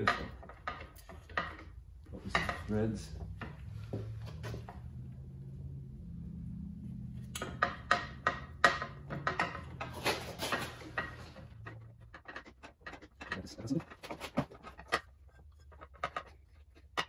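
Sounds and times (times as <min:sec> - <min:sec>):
low steady hum: 0:00.0 - 0:17.0
metal clinks and knocks: 0:00.0 - 0:17.0.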